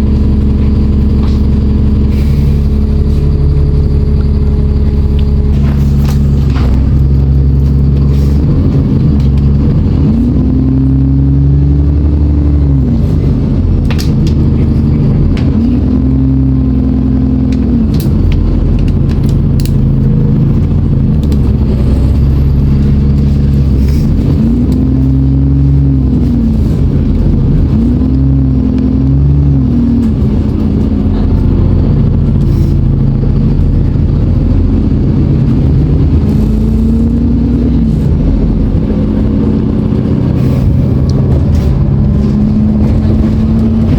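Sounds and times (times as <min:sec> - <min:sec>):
bus diesel engine thrashing: 0:00.0 - 0:43.9
engine whine rising and falling: 0:00.0 - 0:43.9.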